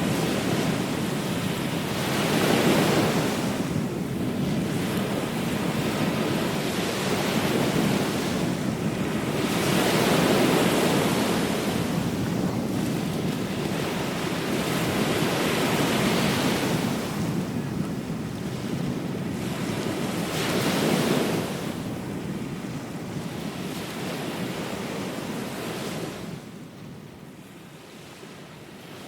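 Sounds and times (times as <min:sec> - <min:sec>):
ocean waves breaking: 0:00.0 - 0:29.0
wind on microphone: 0:00.0 - 0:29.0.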